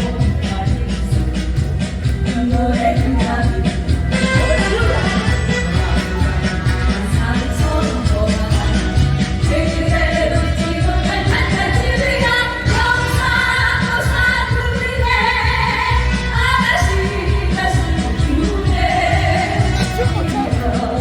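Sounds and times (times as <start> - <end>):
trot band music: 0.0 - 21.0
woman singing: 0.0 - 21.0.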